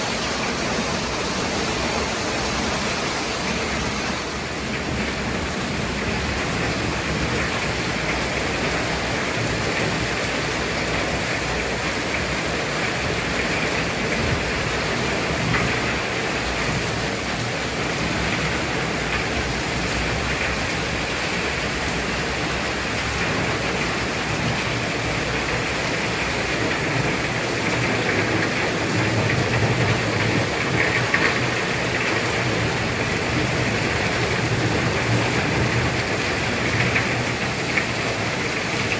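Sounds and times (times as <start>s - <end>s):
heavy rain pouring: 0.0s - 38.9s
strong wind: 0.0s - 38.9s.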